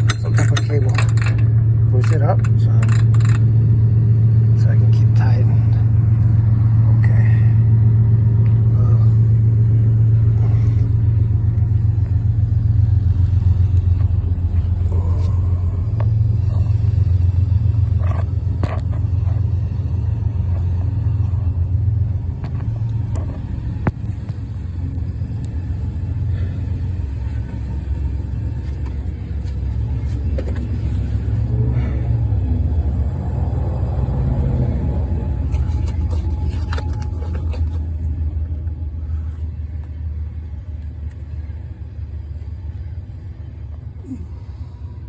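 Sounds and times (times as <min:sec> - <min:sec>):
low rumble: 0:00.0 - 0:45.0.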